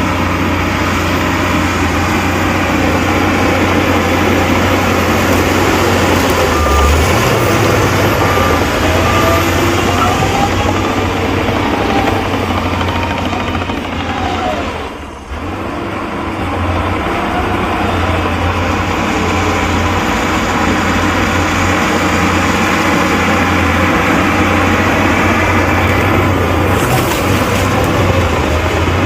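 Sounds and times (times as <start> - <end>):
heavy diesel engines running: 0.0 - 29.0.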